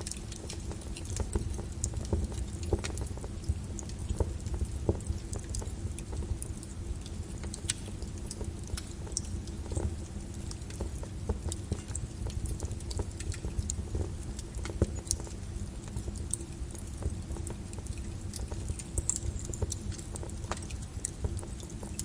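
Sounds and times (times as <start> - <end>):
lava crackles and clicks: 0.0 - 22.0
lava flow rumbling: 0.0 - 22.0.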